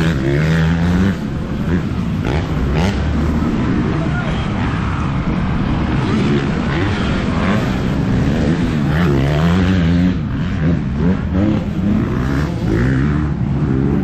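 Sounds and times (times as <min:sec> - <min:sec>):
motorcycle engine revving: 0:00.0 - 0:04.0, 0:05.6 - 0:14.0.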